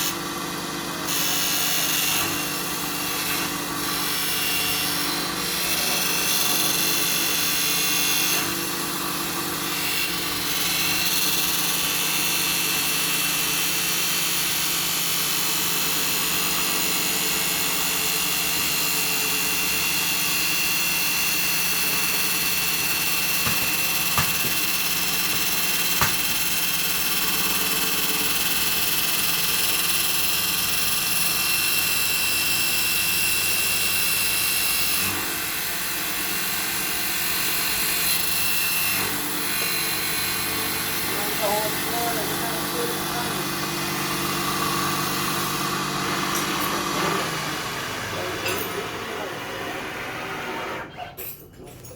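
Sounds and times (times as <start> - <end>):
lathe motor whine: 0.0 - 50.9.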